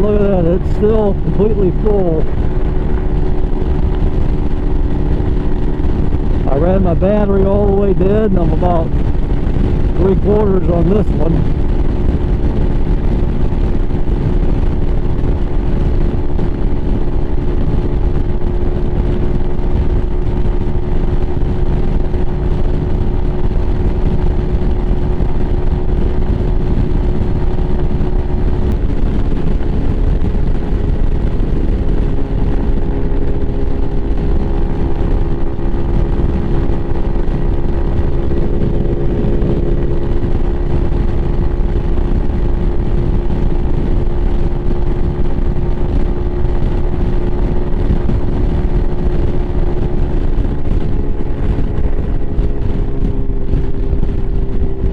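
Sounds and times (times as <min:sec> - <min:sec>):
motorcycle engine running: 0:00.0 - 0:54.9
wind rush over microphone: 0:00.0 - 0:54.9.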